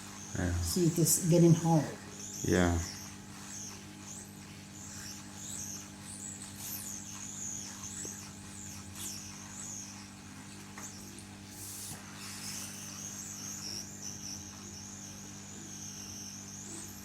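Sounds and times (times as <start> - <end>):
hot-air station humming: 0.0 - 17.0
faint high squeaky chirps: 0.1 - 11.5, 12.1 - 17.0.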